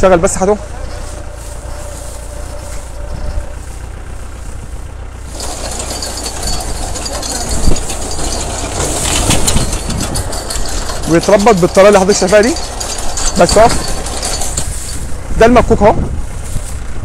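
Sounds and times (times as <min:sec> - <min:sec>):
reaper mechanism rattling clatter: 0:00.0 - 0:17.0
tractor engine running: 0:00.0 - 0:17.0.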